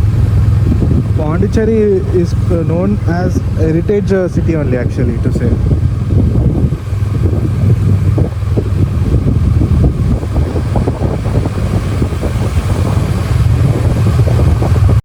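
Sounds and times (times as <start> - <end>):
motorcycle engine running: 0.0 - 15.0
road noise: 0.0 - 15.0
wind buffeting microphone: 0.0 - 15.0.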